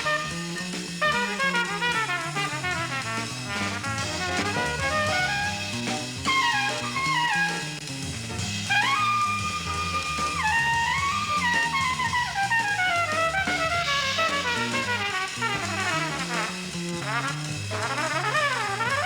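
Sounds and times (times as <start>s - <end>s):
bass: 0.0s - 19.0s
brass horn melody: 0.0s - 19.0s
drum kit: 0.0s - 19.0s.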